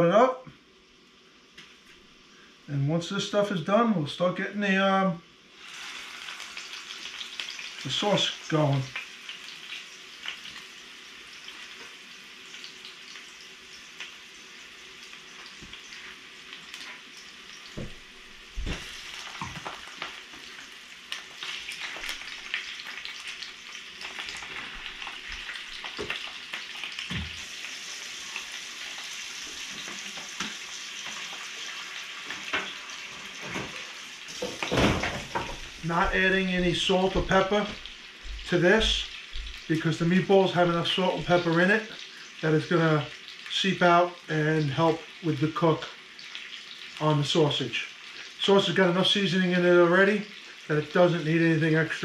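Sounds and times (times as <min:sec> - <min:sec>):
meatballs sizzling in skillet: 0:05.3 - 0:52.0.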